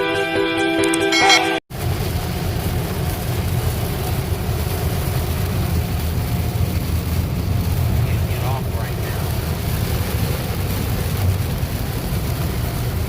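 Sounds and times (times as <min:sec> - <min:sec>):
rain hiss: 0:01.7 - 0:13.0.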